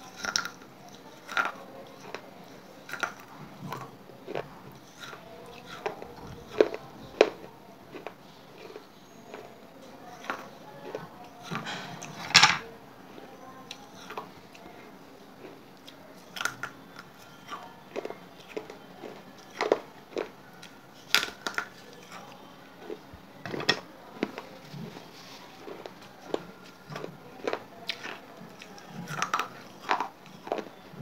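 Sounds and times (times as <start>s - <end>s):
crunchy chewing: 0.0s - 12.3s, 13.1s - 31.0s.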